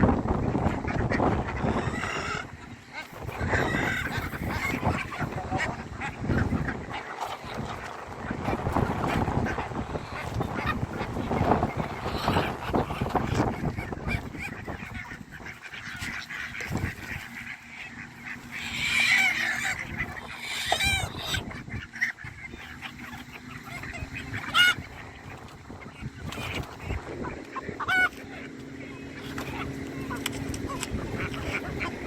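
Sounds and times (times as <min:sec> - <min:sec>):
geese honking: 0:00.0 - 0:32.0
poultry noise: 0:00.0 - 0:32.0.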